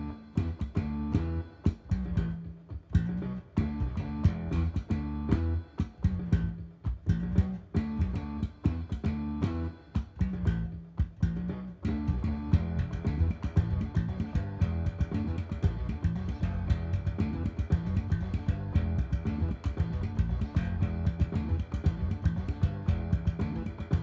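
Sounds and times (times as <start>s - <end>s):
slap electric bass riff: 0.0s - 24.0s.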